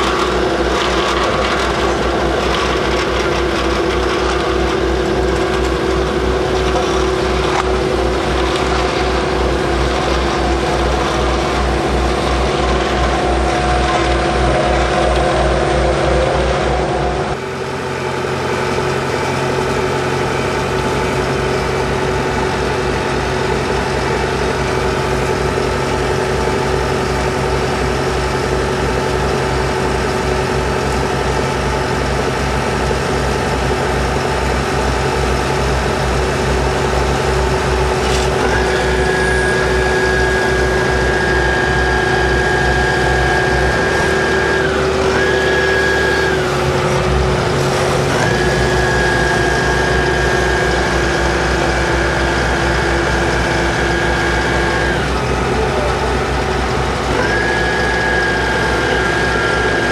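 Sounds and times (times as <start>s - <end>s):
diesel engine running: 0.0s - 59.9s
steady high whine: 0.0s - 59.9s.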